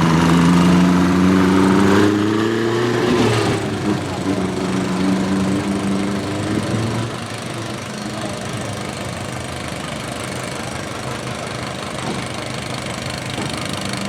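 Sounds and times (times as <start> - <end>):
small tractor engine running: 0.0 - 14.0.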